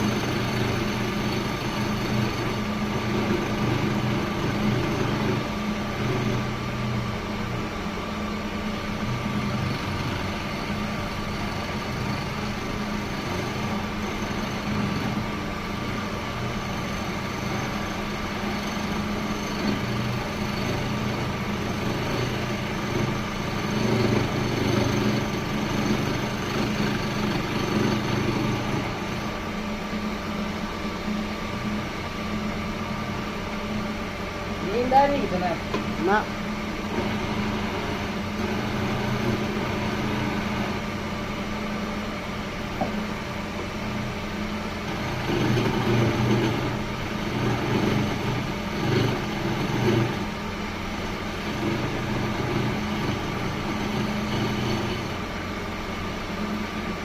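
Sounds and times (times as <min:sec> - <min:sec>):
woodworking machine motor hum: 0:00.0 - 0:57.0.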